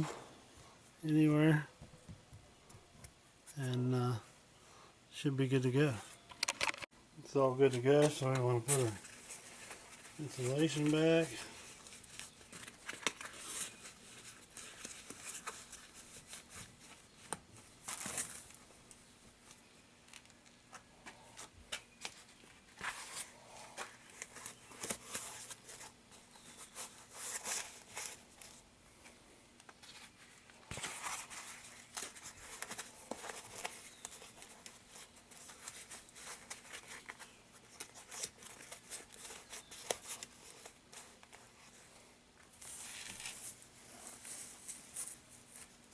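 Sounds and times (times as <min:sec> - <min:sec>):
insulation rustling and crinkling: 0:05.8 - 0:45.9.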